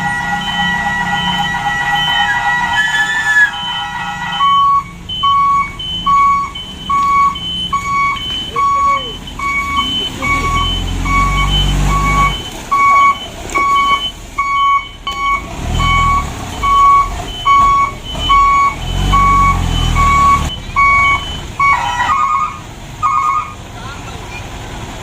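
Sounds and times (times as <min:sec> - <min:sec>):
truck reversing alarm beeping: 0:00.0 - 0:23.6
truck engine surging: 0:00.0 - 0:25.0.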